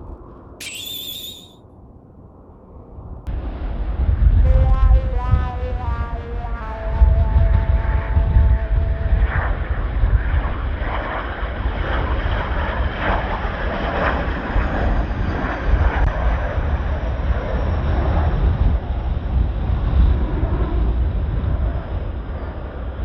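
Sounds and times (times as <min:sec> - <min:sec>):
strong wind buffeting microphone: 0:02.8 - 0:22.2.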